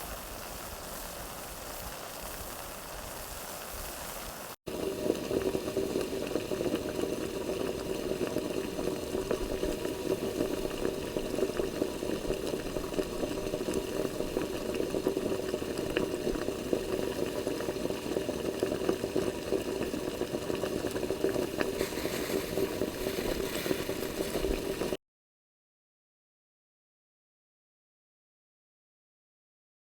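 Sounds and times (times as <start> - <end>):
water boiling: 0.0 - 25.0.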